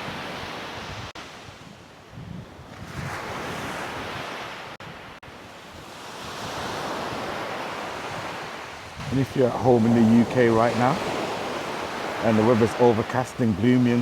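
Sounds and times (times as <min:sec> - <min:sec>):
sea waves breaking: 0:00.0 - 0:14.0
wind on microphone: 0:00.0 - 0:14.0.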